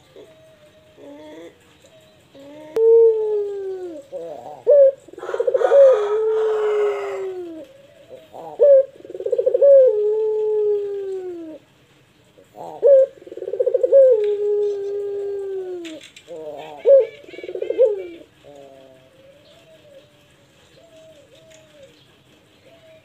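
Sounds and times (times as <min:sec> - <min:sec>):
dove cooing with trill: 0:00.0 - 0:11.8, 0:12.4 - 0:23.0.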